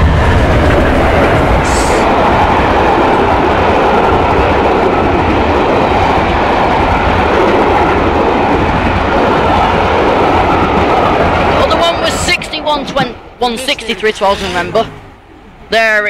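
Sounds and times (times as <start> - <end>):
train wheels rushing on rail: 0.0 - 15.2.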